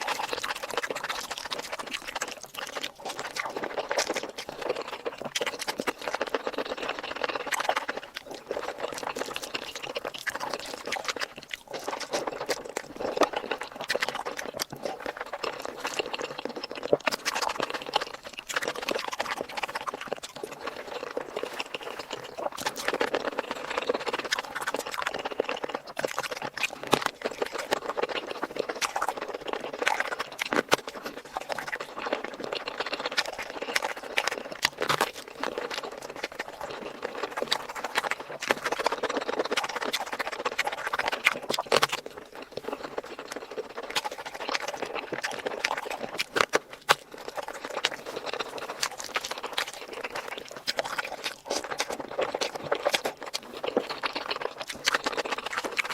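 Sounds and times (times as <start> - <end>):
chewing and lip smacking: 0.0 - 55.9.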